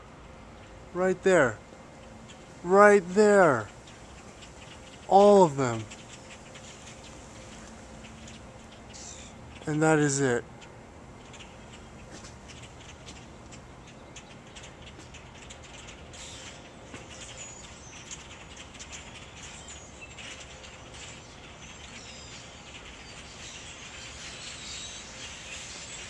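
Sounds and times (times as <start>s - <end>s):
flock of birds chirping: 0.0s - 26.0s.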